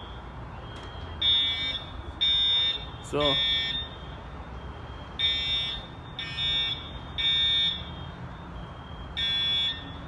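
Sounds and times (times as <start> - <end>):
fire alarm horn blasts: 0.0 - 10.0.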